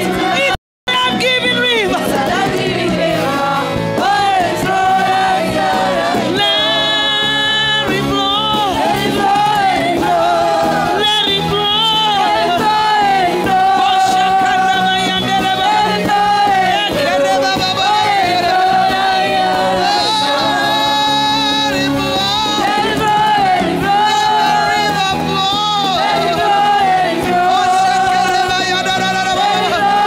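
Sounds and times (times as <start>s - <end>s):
gospel lead voice singing: 0.0s - 30.0s
instrumental accompaniment: 0.0s - 30.0s.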